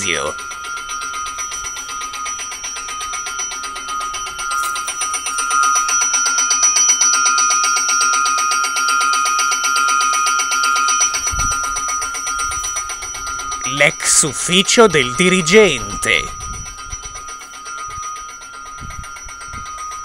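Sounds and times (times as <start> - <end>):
electric station bell ringing: 0.0 - 20.0.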